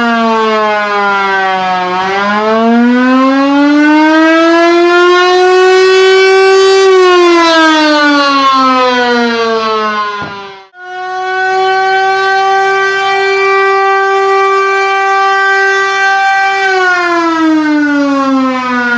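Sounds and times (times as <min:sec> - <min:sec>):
siren wailing: 0:00.0 - 0:18.9.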